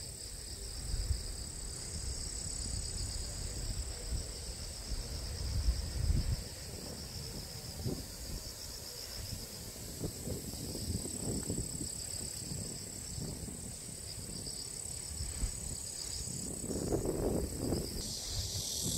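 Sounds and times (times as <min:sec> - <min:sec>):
insects trilling: 0:00.0 - 0:18.9
wind rumbling on microphone: 0:00.2 - 0:18.9.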